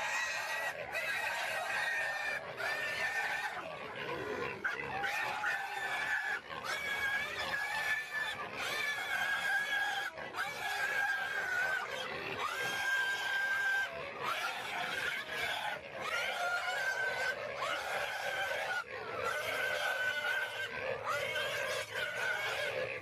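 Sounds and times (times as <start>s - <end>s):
warthog squealing: 0.0s - 23.0s.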